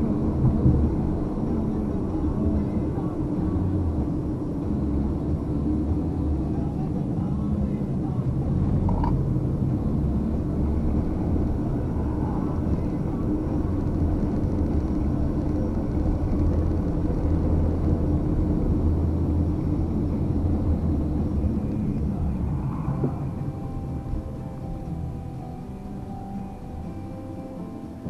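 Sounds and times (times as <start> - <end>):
muffled low rumble: 0.0 - 28.0.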